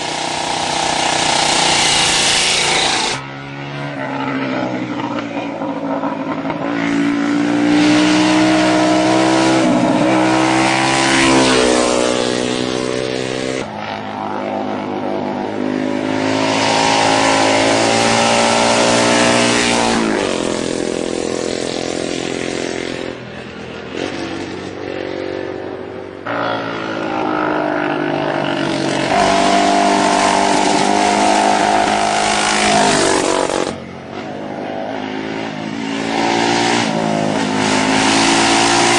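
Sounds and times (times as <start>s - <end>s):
racing motorcycles revving: 0.0s - 38.9s.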